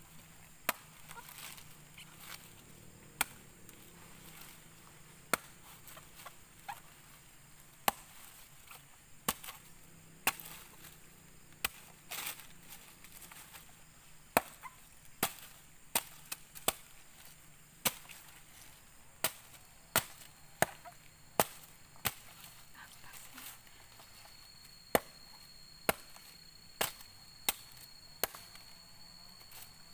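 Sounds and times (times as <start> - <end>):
machete chopping coconut husk: 0.1 - 29.9.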